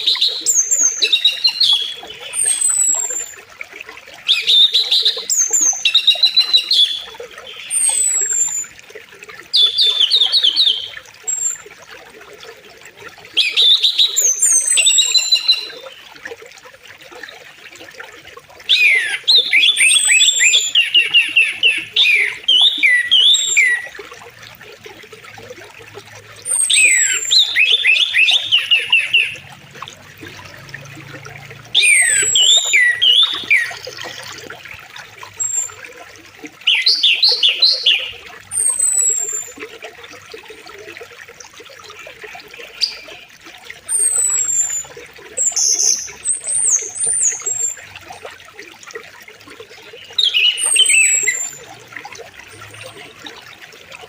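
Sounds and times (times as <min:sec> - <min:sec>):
songbirds singing: 0:00.0 - 0:03.5, 0:04.1 - 0:08.8, 0:09.4 - 0:11.8, 0:13.2 - 0:16.3, 0:17.1 - 0:24.3, 0:26.1 - 0:36.0, 0:36.6 - 0:40.6, 0:41.9 - 0:48.3, 0:49.6 - 0:51.8
flowing river: 0:00.0 - 0:54.0.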